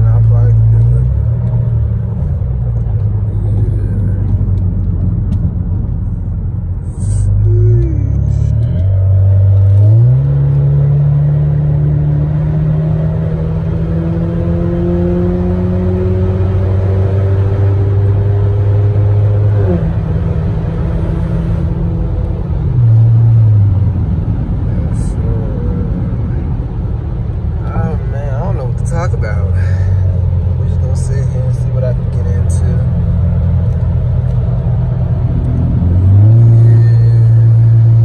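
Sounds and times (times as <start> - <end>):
car engine accelerating: 0.0 - 38.0
road and tyre noise: 0.0 - 38.0.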